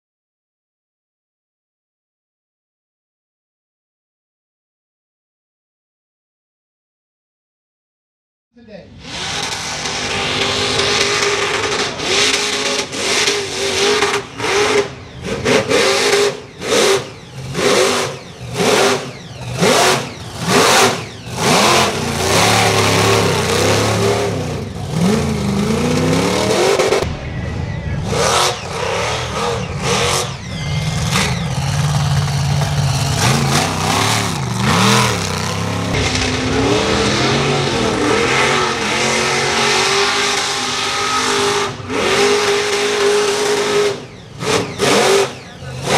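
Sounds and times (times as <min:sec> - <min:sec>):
truck engine revving: 0:08.9 - 0:45.9.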